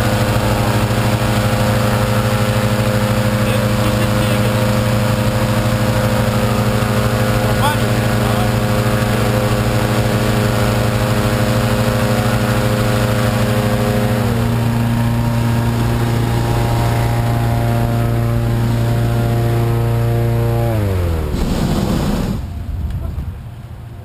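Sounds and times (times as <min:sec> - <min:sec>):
balloon burner roaring: 0:00.0 - 0:23.8
engine inflator fan: 0:00.0 - 0:24.0.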